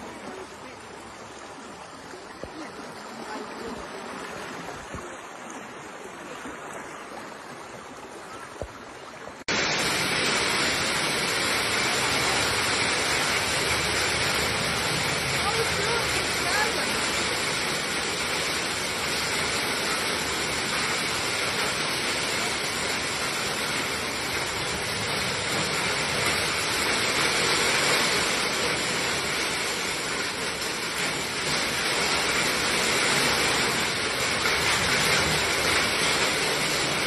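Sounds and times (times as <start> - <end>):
heavy rain falling: 0.0 - 6.2, 9.4 - 37.0.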